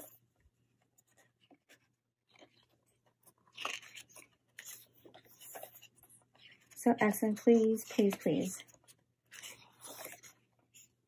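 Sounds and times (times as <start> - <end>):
paper pages rustling: 0.0 - 11.0.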